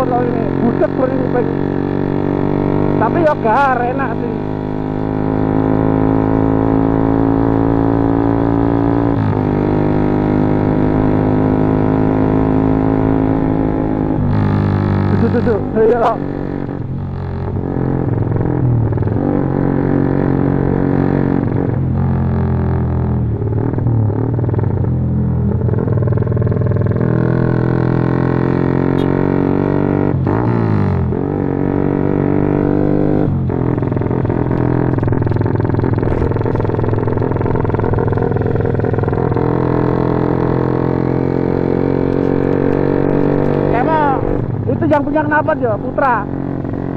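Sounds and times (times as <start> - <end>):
motorcycle engine under throttle: 0.0 - 46.9.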